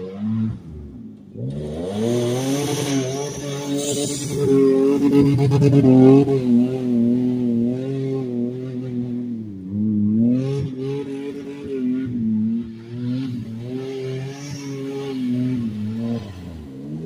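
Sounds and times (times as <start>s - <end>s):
suv engine revving hard: 0.0s - 9.3s, 10.1s - 17.0s.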